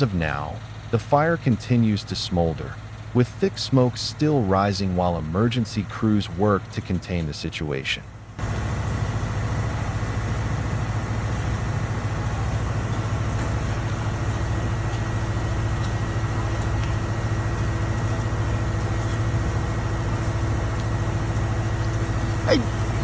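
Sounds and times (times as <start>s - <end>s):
large engine idling: 0.0s - 23.0s.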